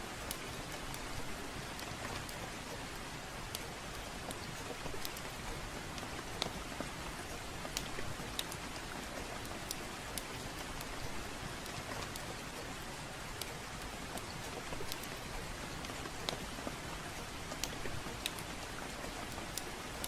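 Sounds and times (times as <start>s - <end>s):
steady rain hiss: 0.0s - 20.0s
wood fire crackling: 0.1s - 20.0s.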